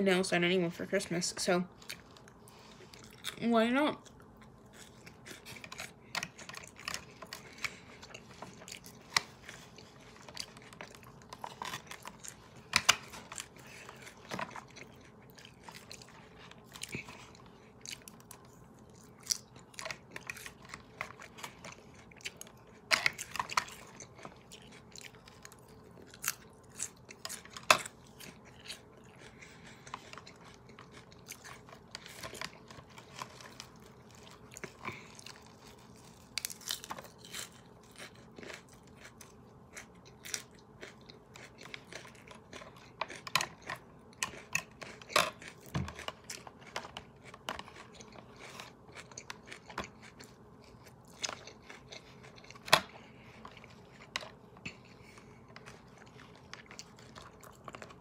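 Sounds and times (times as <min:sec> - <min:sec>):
chewing crisp lettuce: 0:01.8 - 0:58.0.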